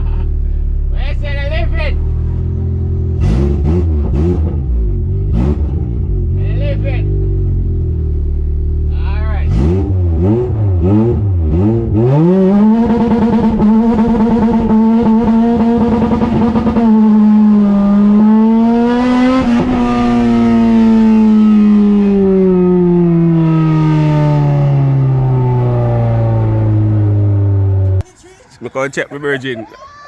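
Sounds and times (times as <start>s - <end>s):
car engine revving: 0.0s - 28.1s.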